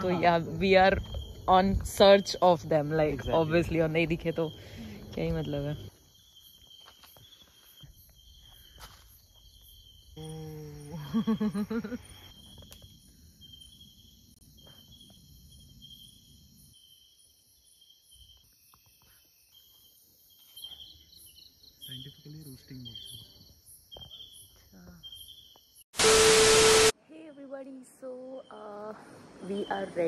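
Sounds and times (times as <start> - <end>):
high insect trilling: 0.0 - 25.8
crickets chirring: 0.0 - 30.0.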